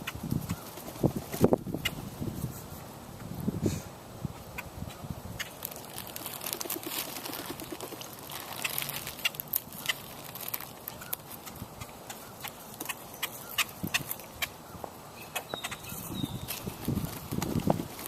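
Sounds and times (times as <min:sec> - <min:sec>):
sharp bird clicks and ticks: 0:00.0 - 0:02.0, 0:04.4 - 0:18.0.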